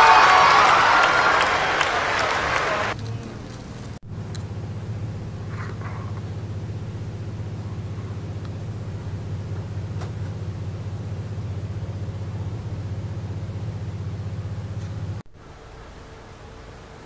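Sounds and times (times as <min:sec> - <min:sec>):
train rumbling: 0:00.0 - 0:15.2.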